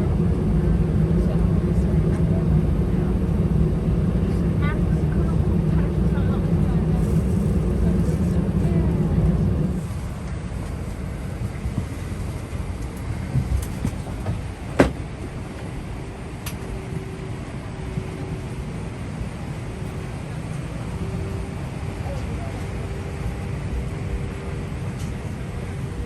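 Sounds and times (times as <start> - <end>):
airliner cabin low rumble: 0.0 - 26.0.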